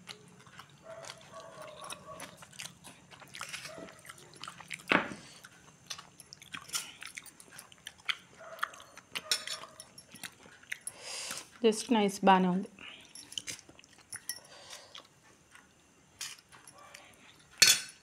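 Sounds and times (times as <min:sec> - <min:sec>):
person chewing noodles: 0:00.0 - 0:11.6, 0:12.8 - 0:17.6.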